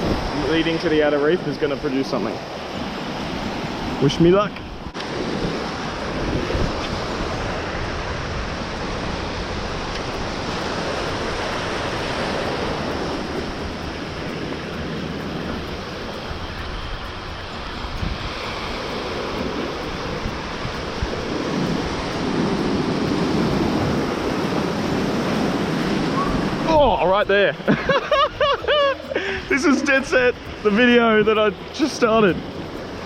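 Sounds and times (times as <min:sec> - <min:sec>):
waves washing over reef: 0:00.0 - 0:33.0
wind rushing on microphone: 0:00.0 - 0:33.0.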